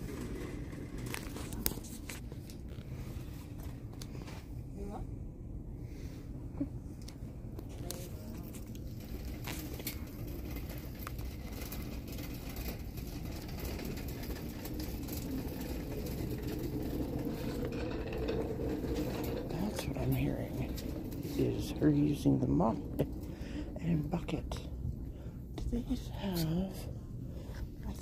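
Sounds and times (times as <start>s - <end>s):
faint hum: 0.0s - 28.0s
low shop rumble: 0.0s - 28.0s.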